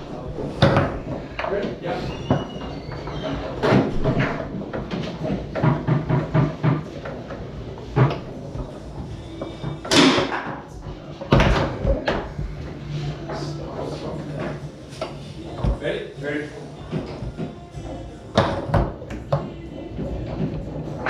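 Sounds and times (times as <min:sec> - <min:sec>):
foosball rods clacking: 0:00.0 - 0:15.8, 0:16.4 - 0:21.0
foosball ball knocking: 0:00.2 - 0:15.8, 0:16.6 - 0:21.0.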